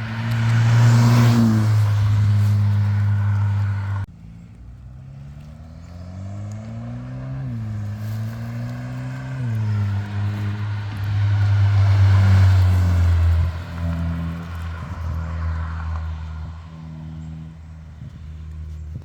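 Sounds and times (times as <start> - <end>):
car engine exhaust drone: 0.0 - 19.0.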